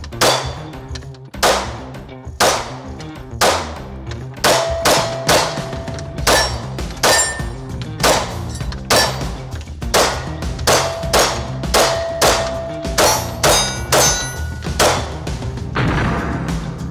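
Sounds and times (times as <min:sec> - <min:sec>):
background music: 0:00.0 - 0:16.9
pistol shots: 0:00.1 - 0:00.8, 0:01.4 - 0:15.3.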